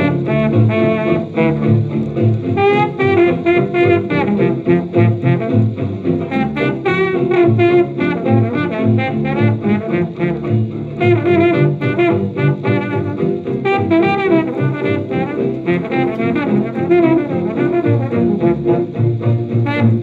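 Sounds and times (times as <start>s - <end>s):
old jazz dance band recording: 0.0s - 20.0s.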